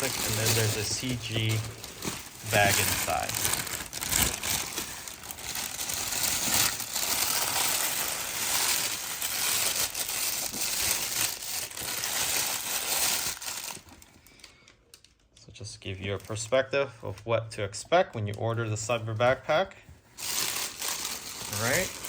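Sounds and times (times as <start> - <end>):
plastic wrap crinkling: 0.0 - 15.2, 19.2 - 22.0.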